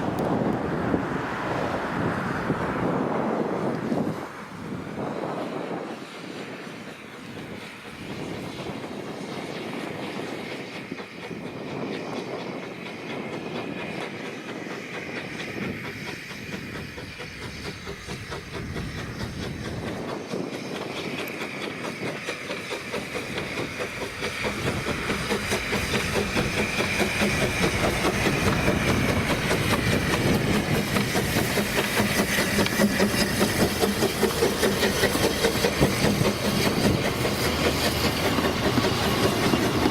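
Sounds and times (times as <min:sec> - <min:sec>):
steam train wheels clattering: 0:03.0 - 0:39.9.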